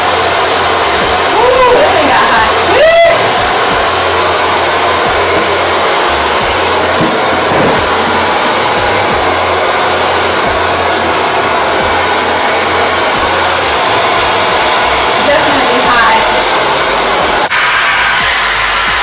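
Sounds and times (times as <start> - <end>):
blow dryer running: 0.0 - 19.0.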